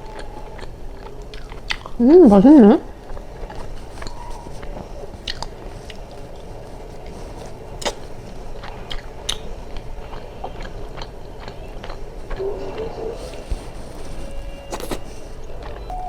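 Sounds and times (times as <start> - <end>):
person chewing food: 0.0 - 16.0
sharp clicks and crunches: 3.0 - 16.0.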